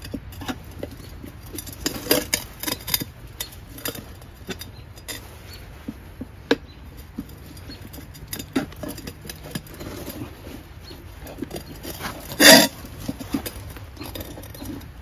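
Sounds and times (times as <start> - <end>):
hand tools clicking and knocking: 0.0 - 15.0.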